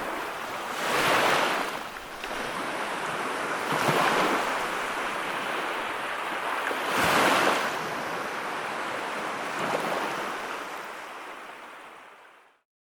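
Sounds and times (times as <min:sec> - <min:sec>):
sea waves washing in: 0:00.0 - 0:12.5.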